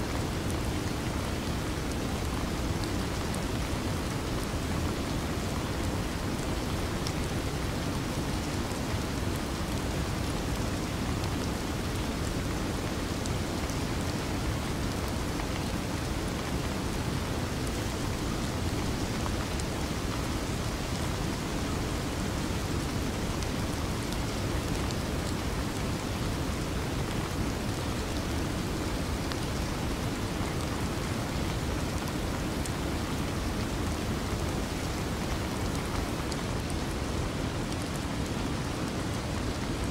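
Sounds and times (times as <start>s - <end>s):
rain-like rushing noise: 0.0s - 39.9s.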